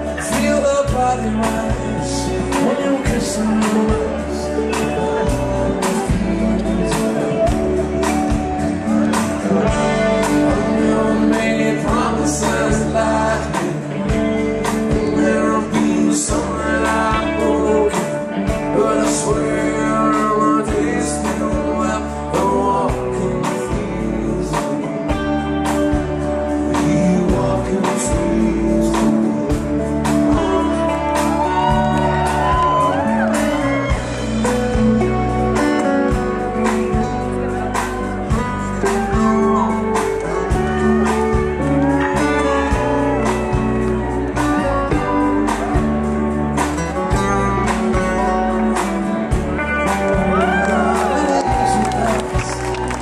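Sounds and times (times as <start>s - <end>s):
live band playing: 0.0s - 53.0s
person singing lead vocal: 0.0s - 53.0s.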